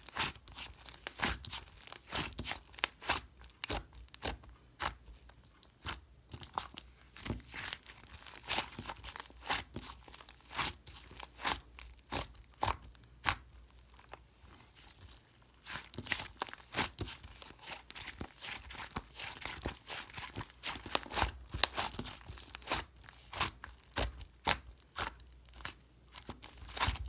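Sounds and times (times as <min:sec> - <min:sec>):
slime crackling by hand: 0:00.0 - 0:27.0.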